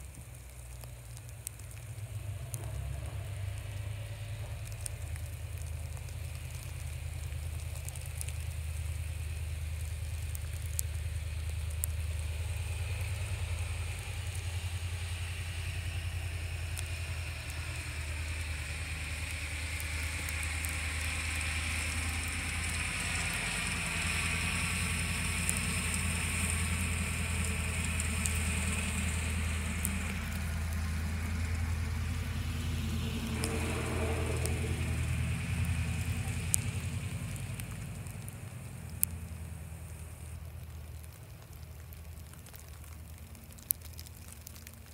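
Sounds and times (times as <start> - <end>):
light ticks: 0.0 - 14.5, 19.2 - 31.6, 33.1 - 44.9
low engine hum: 0.0 - 44.9
vehicle passing hiss: 1.8 - 41.0.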